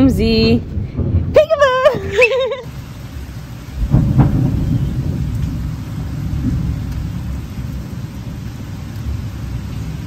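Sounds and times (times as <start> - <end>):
steady rain: 0.0 - 10.0
thunder rumbling: 0.0 - 10.0.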